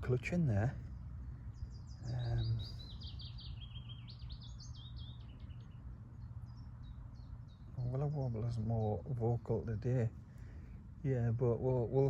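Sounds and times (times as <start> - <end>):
warbler singing: 0.0 - 12.0.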